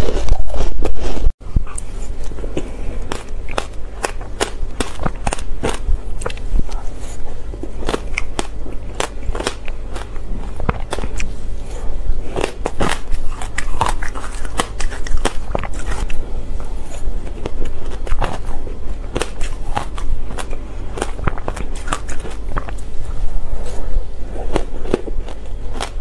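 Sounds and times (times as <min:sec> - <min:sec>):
crunching and chewing ice: 0:00.0 - 0:26.0.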